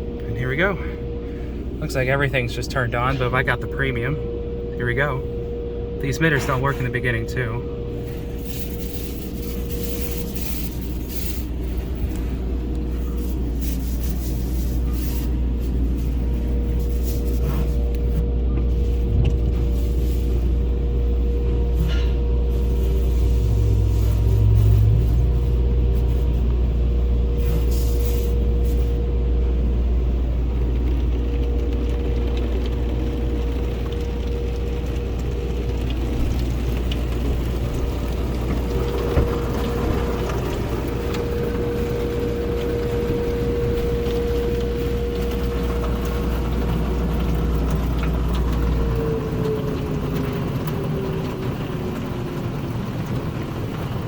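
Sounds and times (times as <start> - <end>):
car wash equipment hum: 0.0 - 54.0
constant whine: 0.0 - 54.0.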